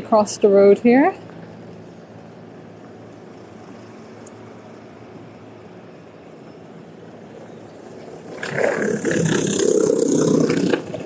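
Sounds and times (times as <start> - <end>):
street traffic hum: 0.0 - 11.0.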